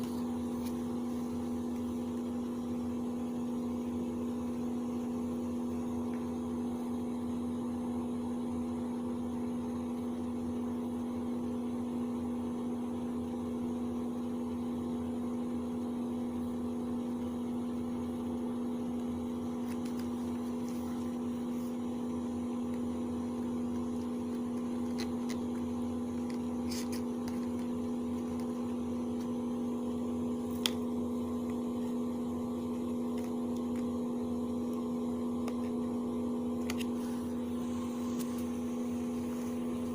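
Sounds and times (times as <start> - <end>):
appliance hum: 0.0 - 39.9.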